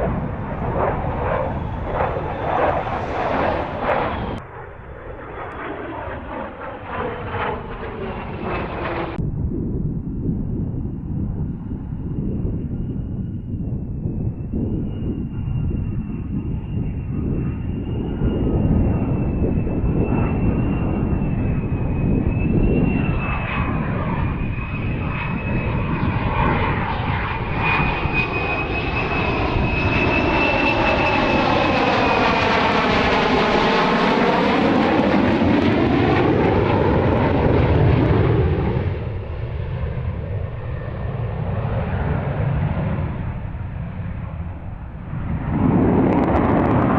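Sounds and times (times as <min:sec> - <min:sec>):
jet engine whine and rumble: 0:00.0 - 0:46.9.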